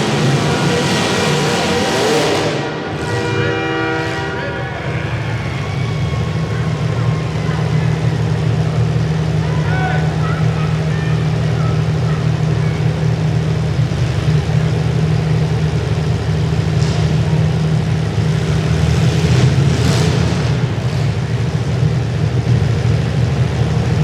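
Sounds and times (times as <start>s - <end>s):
car engines running loud: 0.0s - 24.0s.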